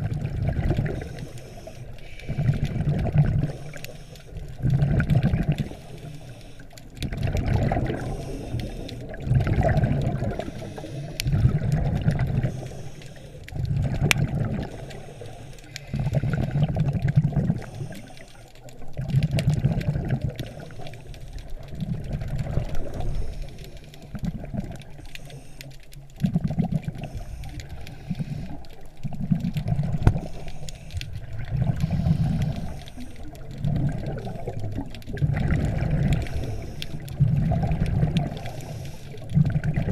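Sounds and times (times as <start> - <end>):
muffled underwater rush: 0.0 - 39.9.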